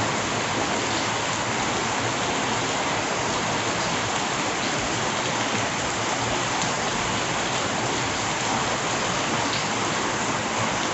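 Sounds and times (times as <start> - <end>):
steady rain hiss: 0.0 - 10.9.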